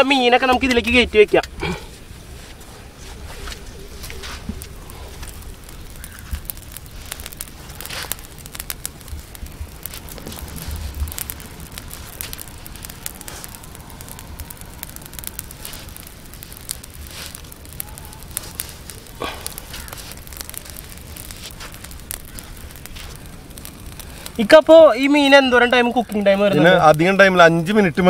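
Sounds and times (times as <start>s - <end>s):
embers crackling and popping: 0.0s - 28.0s
embers hissing: 0.0s - 28.0s.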